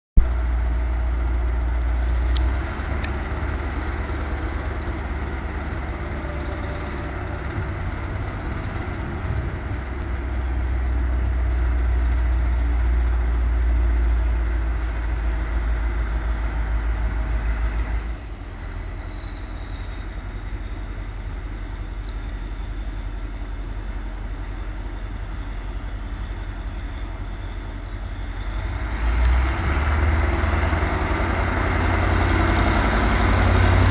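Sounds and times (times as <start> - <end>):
diesel locomotive engine running: 0.2 - 33.9
high engine whine: 0.2 - 33.9.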